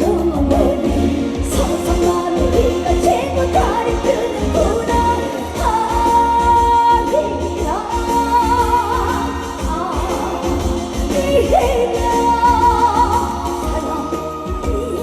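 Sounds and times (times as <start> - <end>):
amplified band with heavy bass beat: 0.0 - 15.0
woman singing: 0.0 - 15.0.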